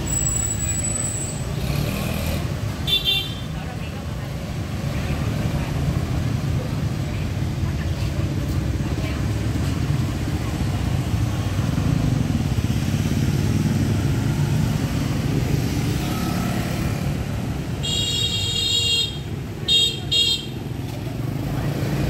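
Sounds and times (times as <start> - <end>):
motorbike engines rumbling: 0.0 - 22.0.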